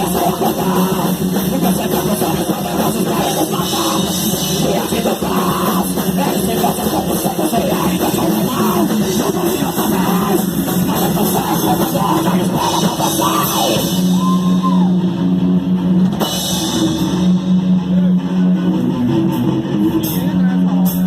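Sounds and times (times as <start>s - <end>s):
heavy rock band playing: 0.0s - 21.0s.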